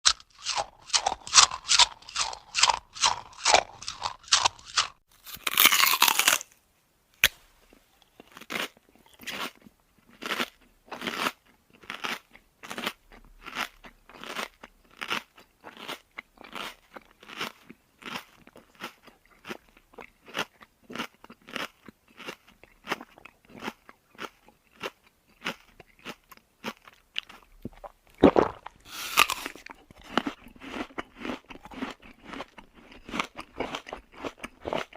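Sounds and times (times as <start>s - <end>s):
person chewing crunchy food: 0.0s - 6.6s, 8.0s - 34.9s.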